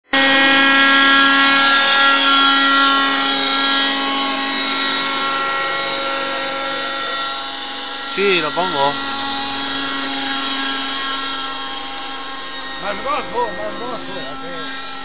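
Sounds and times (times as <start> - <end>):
helicopter motor whine: 0.2 - 15.0.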